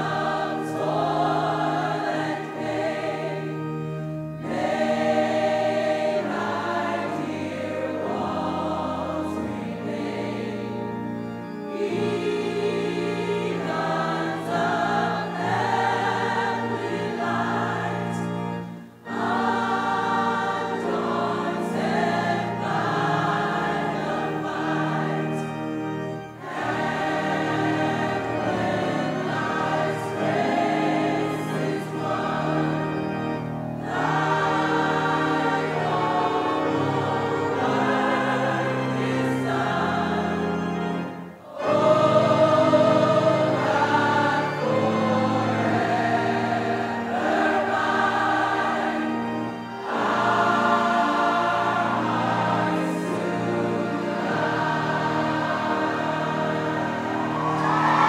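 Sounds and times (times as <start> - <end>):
organ accompaniment: 0.0 - 58.0
women's choir singing a hymn: 0.0 - 58.0.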